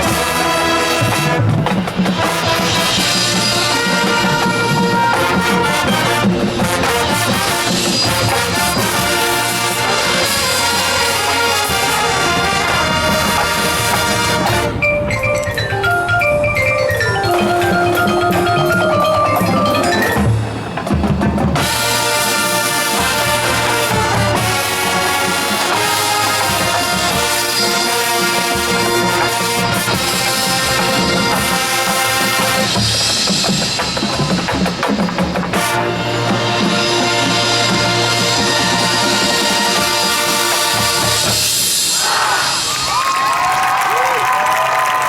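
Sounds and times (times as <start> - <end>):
mallet percussion runs: 0.0 - 45.0
marching band playing: 0.0 - 45.0.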